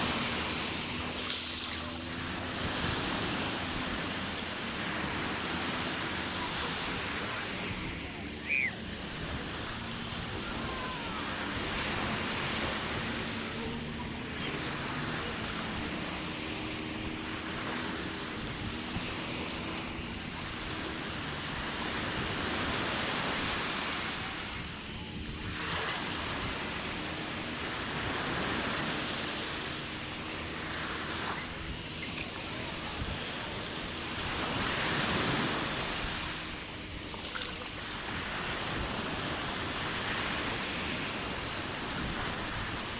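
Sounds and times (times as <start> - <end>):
waves breaking on shore: 0.0 - 42.9.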